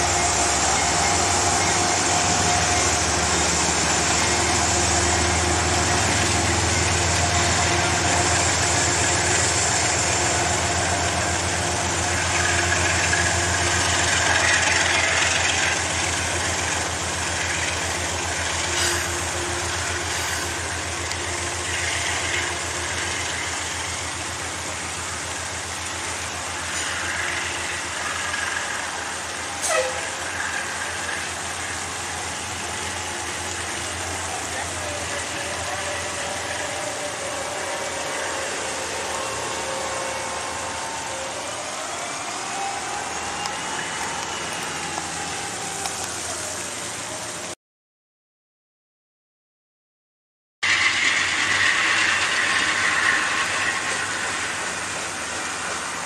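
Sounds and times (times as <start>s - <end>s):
diesel locomotive humming: 0.0s - 47.6s, 50.6s - 56.0s.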